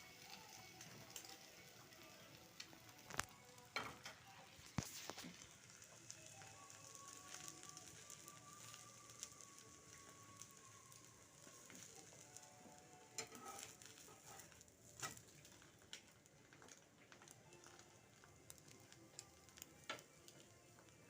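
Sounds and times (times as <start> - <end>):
faint sizzling on a pan: 0.0 - 21.0.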